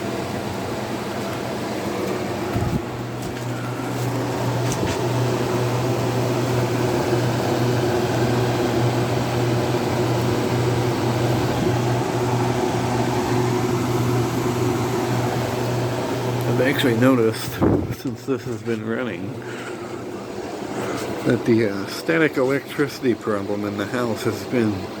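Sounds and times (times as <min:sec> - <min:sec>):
compressor hum: 0:00.0 - 0:25.0
fan whirring: 0:00.0 - 0:25.0.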